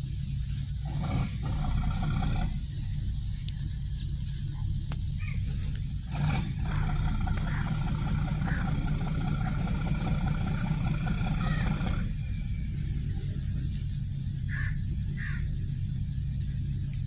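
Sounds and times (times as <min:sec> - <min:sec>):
ferry engines droning: 0:00.0 - 0:17.0
low rumble: 0:00.0 - 0:17.0.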